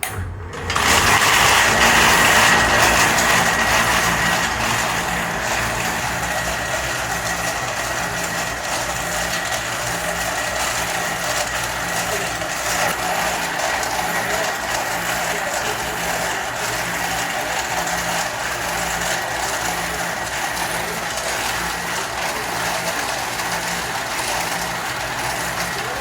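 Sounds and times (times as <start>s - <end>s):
machinery humming: 0.0s - 26.0s.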